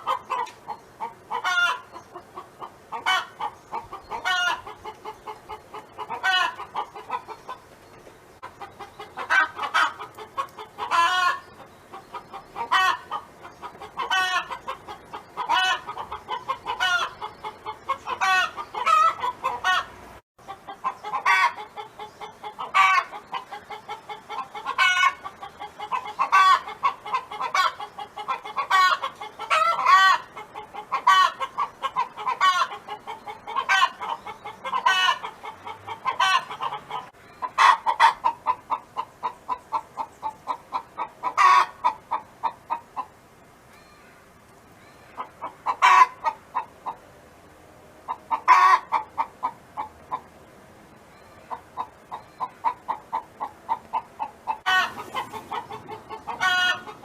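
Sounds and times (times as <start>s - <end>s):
hen clucking and cackling: 0.0s - 57.0s.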